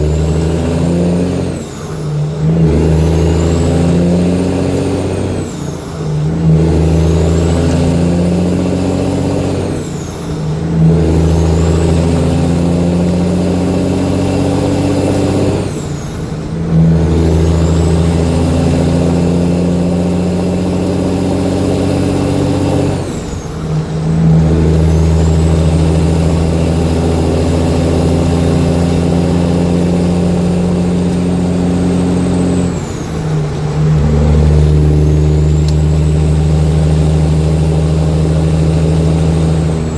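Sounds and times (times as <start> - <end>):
diesel truck engine drone: 0.0 - 39.9
high turbo whistle: 0.0 - 39.9.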